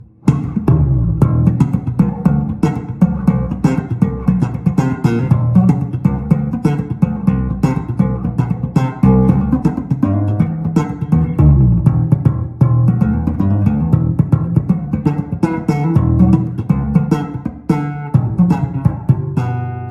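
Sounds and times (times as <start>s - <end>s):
electric bass guitar plucked notes: 0.0s - 19.9s.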